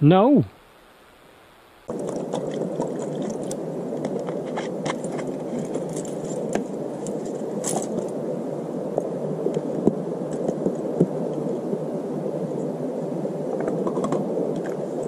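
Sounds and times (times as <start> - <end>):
low rushing noise: 1.8 - 15.0.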